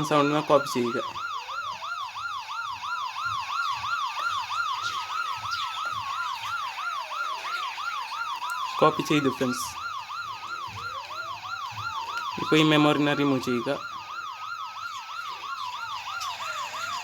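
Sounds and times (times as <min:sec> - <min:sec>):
electronic siren warbling: 0:00.0 - 0:17.0.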